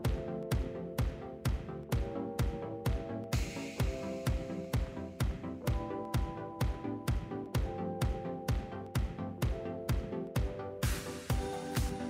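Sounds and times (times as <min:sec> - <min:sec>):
upbeat dance music: 0:00.0 - 0:12.0.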